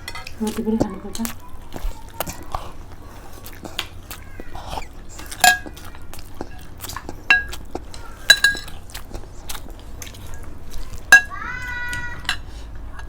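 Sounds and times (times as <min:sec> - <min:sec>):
cutlery clinking on plates: 0:00.0 - 0:02.4, 0:03.6 - 0:09.3, 0:10.0 - 0:13.0.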